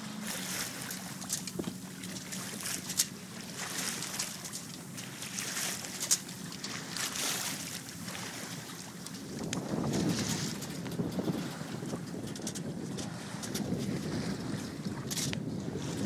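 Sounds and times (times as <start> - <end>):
water rushing along boat hull: 0.0 - 16.0.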